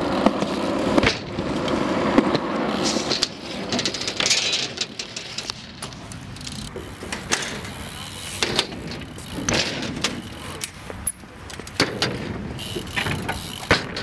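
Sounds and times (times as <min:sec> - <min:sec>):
bike tyres rolling on ramps: 0:00.0 - 0:14.0
wheels knocking on ramps: 0:00.0 - 0:14.0.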